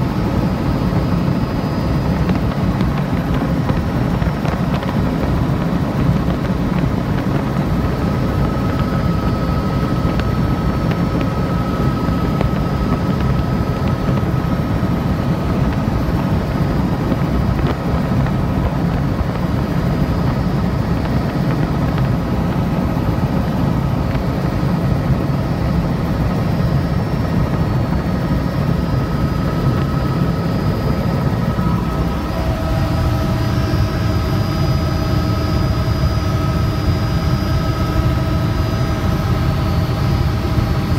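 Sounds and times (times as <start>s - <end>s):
helicopter rotor and engine rumble: 0.0s - 40.9s
steady whining tones: 0.0s - 40.9s.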